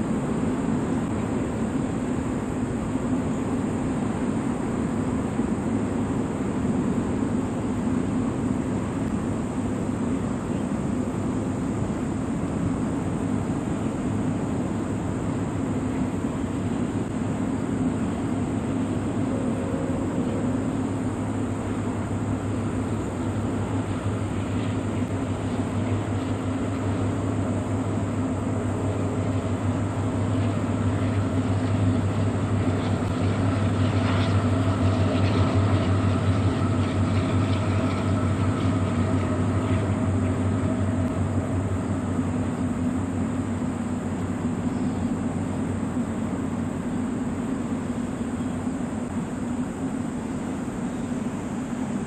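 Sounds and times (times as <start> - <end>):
train rumbling on steel viaduct: 0.0 - 52.0.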